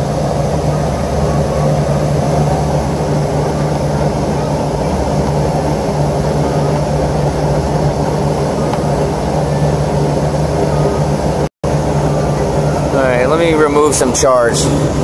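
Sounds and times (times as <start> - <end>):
compressor hum: 0.0 - 15.0
condenser fan rushing: 0.0 - 15.0.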